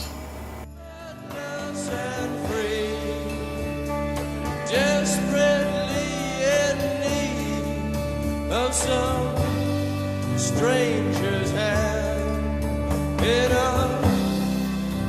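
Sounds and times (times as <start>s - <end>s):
slow song with sustained chords: 0.3s - 15.0s
person singing: 0.7s - 3.8s, 4.5s - 12.6s, 13.2s - 14.8s.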